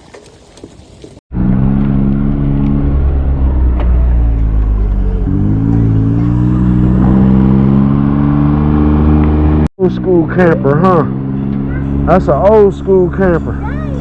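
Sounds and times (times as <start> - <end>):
car engine running: 1.3 - 14.0.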